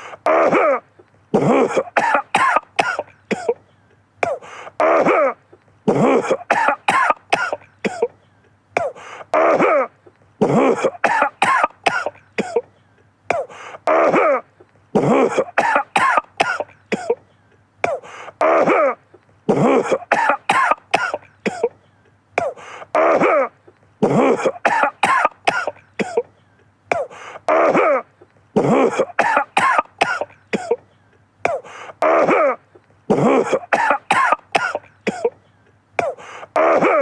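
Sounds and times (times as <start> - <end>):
man coughing: 0.0 - 37.0.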